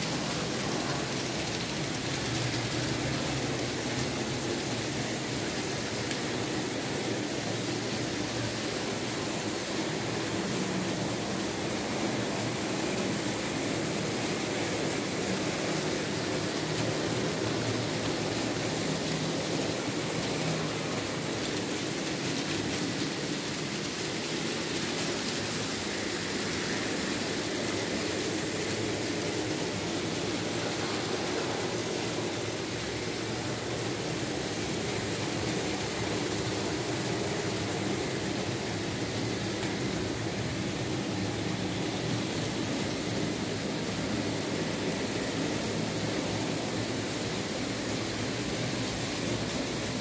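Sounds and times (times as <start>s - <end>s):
model train whirring on rails: 0.0s - 50.0s.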